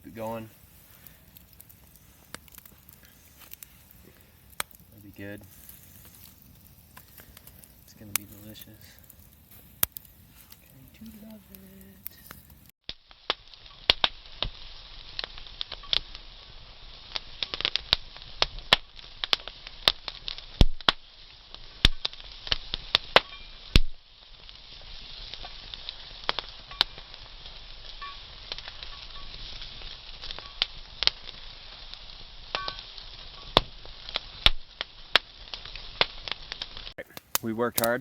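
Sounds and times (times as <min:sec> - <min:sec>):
campfire crackling and popping: 0:00.0 - 0:38.0
food sizzling: 0:00.0 - 0:38.0.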